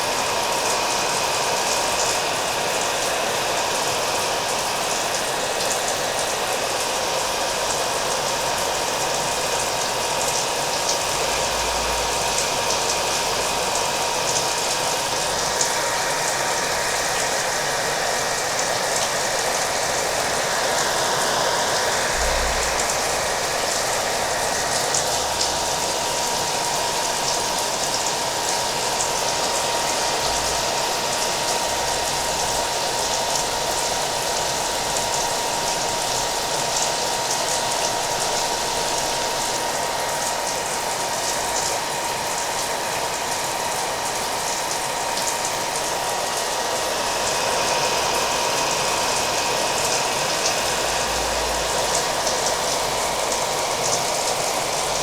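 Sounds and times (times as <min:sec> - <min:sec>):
hair dryer whine: 0:00.0 - 0:55.0.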